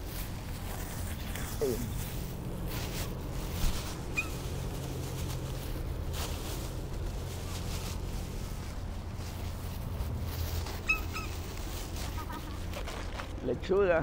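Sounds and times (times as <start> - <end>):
low rumble: 0.0 - 13.7
faint rustling: 0.0 - 14.0.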